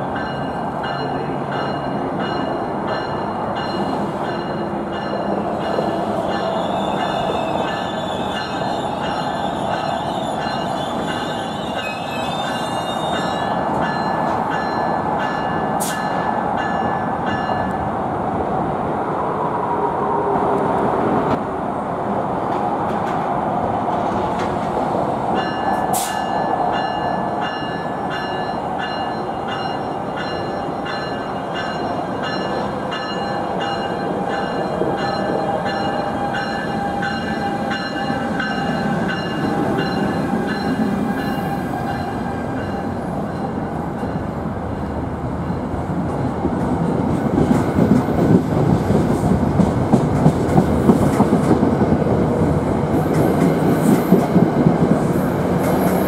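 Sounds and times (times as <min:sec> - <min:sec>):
train rolling rumble: 0:00.0 - 0:56.0.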